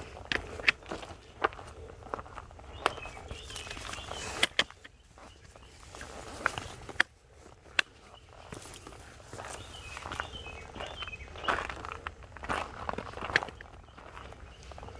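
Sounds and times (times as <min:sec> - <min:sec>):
footsteps on trail: 0:00.0 - 0:14.9.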